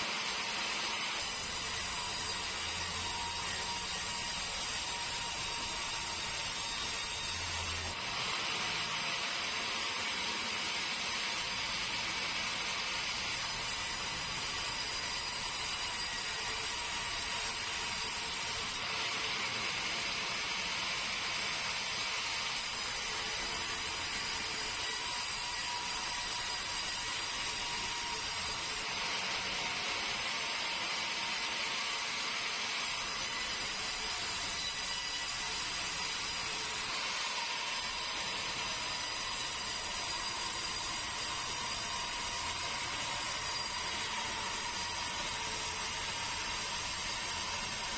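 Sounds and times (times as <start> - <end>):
sawmill saw cutting wood: 0.0 - 20.6, 21.8 - 47.9.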